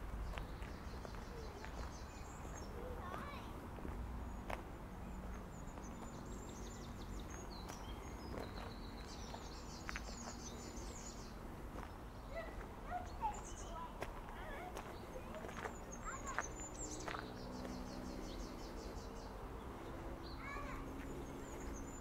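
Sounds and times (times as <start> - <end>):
small birds singing: 0.0 - 22.0.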